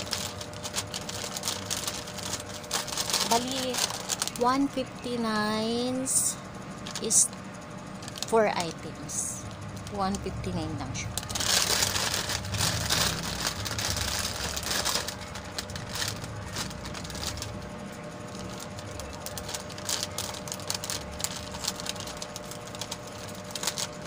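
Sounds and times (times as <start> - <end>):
plastic mailer bag crinkling: 0.0 - 6.0, 6.8 - 9.0, 9.6 - 24.0.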